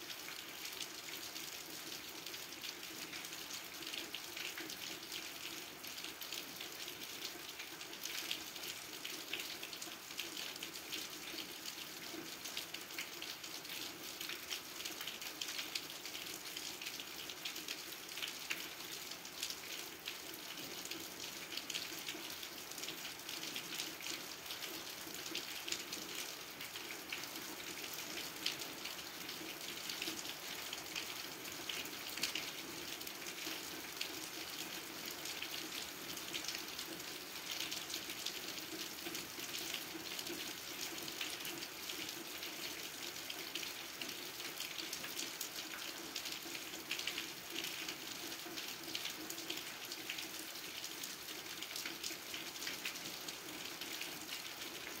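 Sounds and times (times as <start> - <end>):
gentle rain: 0.0 - 55.0.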